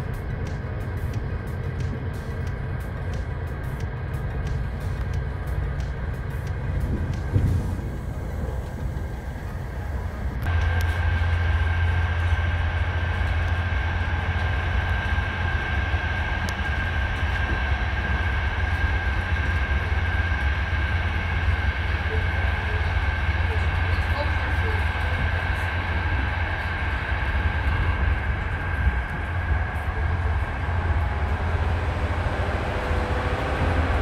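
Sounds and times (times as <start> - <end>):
high whine: 0.0 - 34.0
train running rumble: 0.0 - 34.0.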